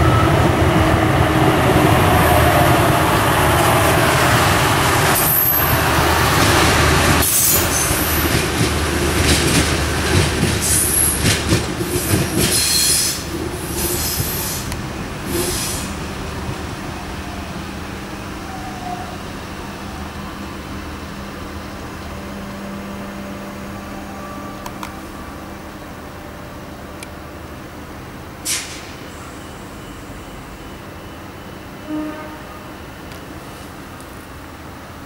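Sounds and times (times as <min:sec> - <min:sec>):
railcar engine and wheel rumble: 0:00.0 - 0:35.0.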